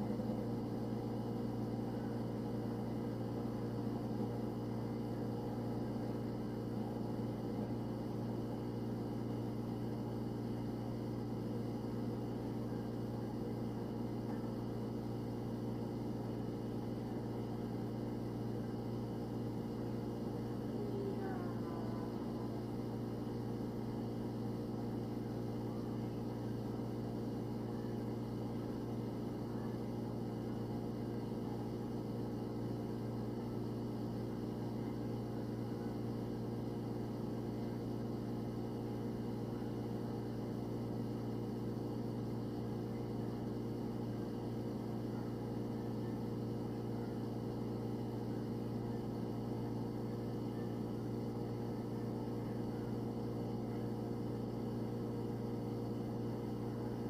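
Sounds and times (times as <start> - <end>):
refrigerator hum: 0.0 - 57.0.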